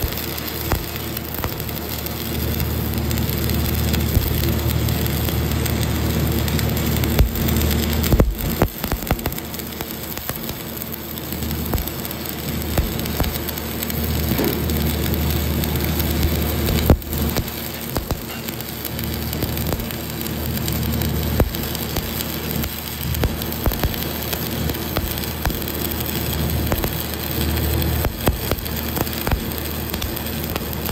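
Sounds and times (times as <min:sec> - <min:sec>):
welding arc crackling: 0:00.0 - 0:30.9.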